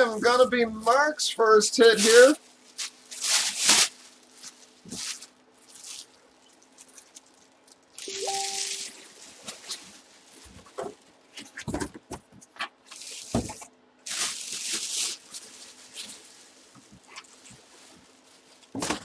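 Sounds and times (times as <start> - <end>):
packaging rustling and crinkling: 1.8 - 19.0.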